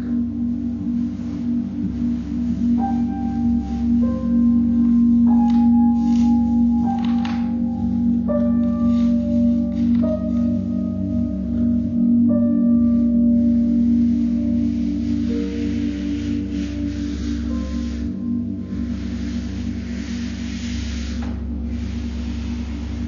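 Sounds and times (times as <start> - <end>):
didgeridoo drone: 0.0 - 23.0.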